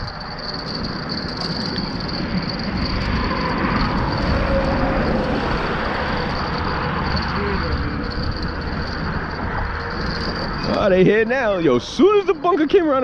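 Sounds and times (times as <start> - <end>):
wind rumble on microphone: 0.0 - 11.3
road traffic rush: 0.0 - 13.0.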